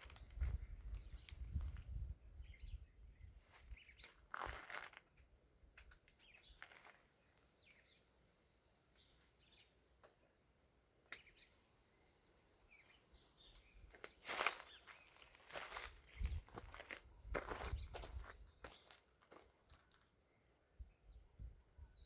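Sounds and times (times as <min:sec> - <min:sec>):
small birds chirping: 0:00.0 - 0:05.0, 0:05.8 - 0:22.0.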